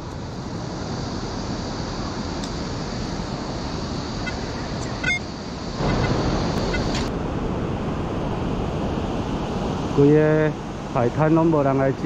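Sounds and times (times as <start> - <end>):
surf on a beach: 0.0 - 12.0
wind: 0.0 - 12.0.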